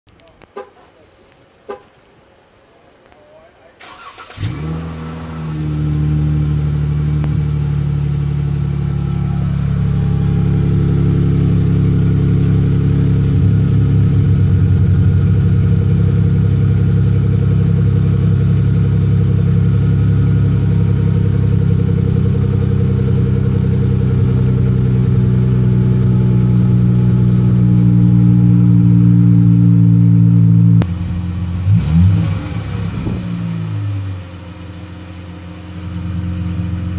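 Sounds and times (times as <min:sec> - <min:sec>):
car engine starting and idling: 0:03.8 - 0:36.9.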